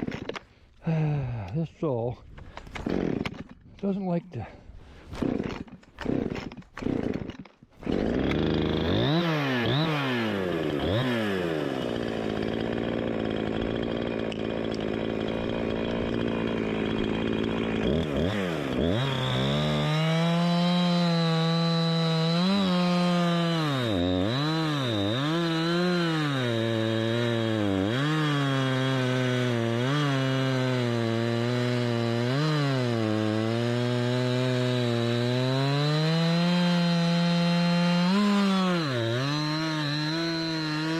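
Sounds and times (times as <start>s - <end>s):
chainsaw revving and cutting wood: 0.0s - 1.6s, 2.6s - 40.9s.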